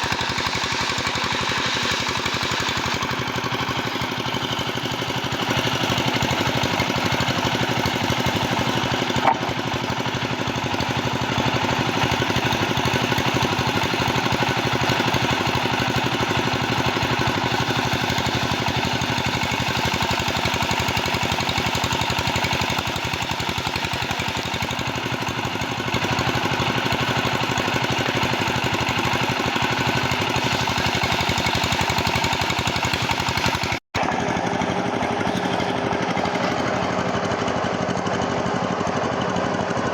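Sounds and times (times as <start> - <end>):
sawmill machinery rattling: 0.0 - 39.9.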